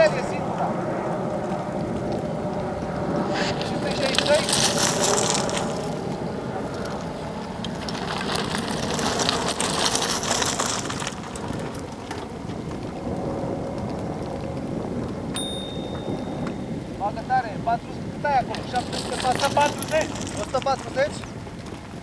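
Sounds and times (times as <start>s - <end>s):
bike tyres rolling over gravel: 0.0s - 22.0s
wind rushing over microphone: 0.0s - 22.0s.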